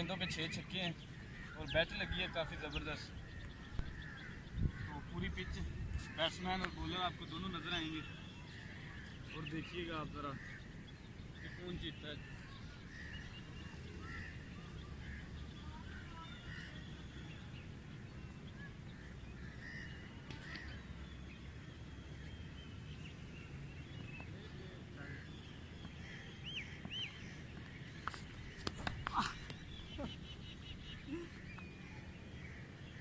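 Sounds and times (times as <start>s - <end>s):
bird chirps and calls: 0.0s - 33.0s
low wind rumble: 0.7s - 33.0s.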